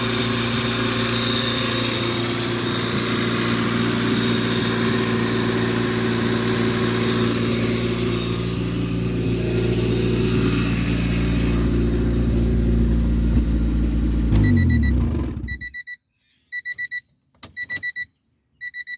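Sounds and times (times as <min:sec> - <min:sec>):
car engine idling: 0:00.0 - 0:15.7
engine winding down: 0:00.0 - 0:15.7.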